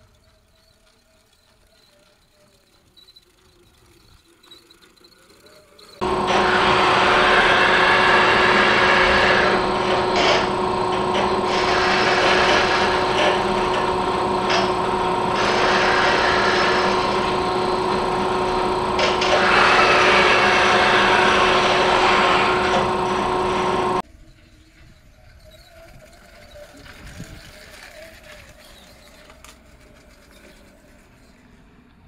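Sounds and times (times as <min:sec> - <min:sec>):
robot arm motors grinding: 0:00.0 - 0:31.5.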